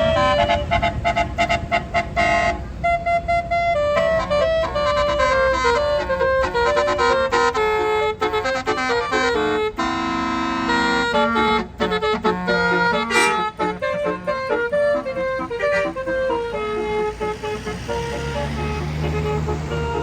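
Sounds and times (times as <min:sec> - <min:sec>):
multi-tone bus air horn tune: 0:00.0 - 0:20.0.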